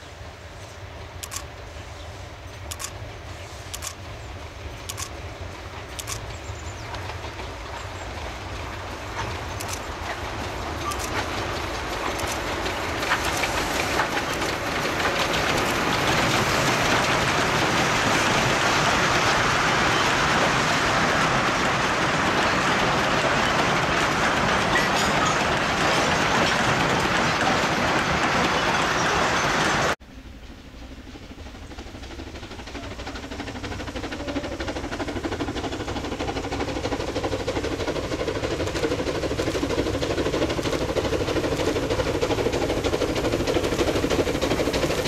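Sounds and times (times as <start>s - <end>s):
train wagons clattering over rails: 0.4s - 30.0s, 31.7s - 45.0s.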